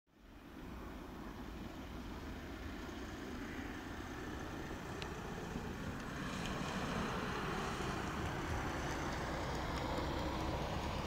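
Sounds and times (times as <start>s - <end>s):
distant jet engines rumbling: 0.2s - 11.0s.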